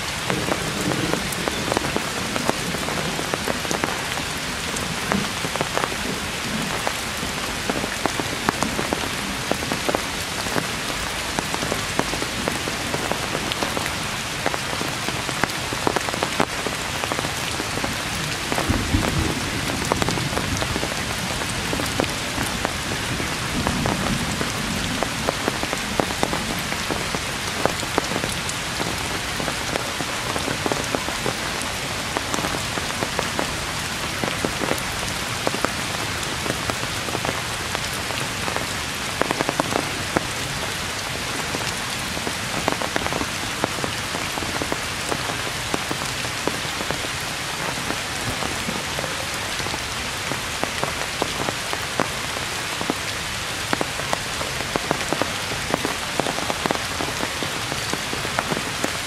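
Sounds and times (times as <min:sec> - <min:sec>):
heavy rain on leaves: 0:00.0 - 0:59.0
raindrop impacts: 0:00.0 - 0:59.0.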